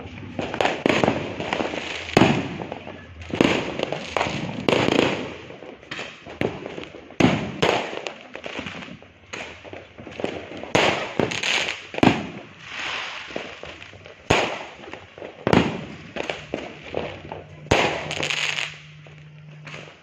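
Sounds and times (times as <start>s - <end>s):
fireworks bangs and booms: 0.0s - 20.0s
fireworks crackling: 0.0s - 20.0s.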